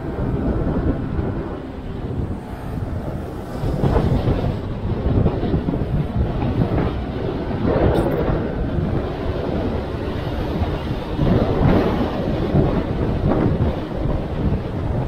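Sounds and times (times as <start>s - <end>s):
road and vehicle noise: 0.0s - 15.0s
wind buffeting microphone: 0.0s - 15.0s.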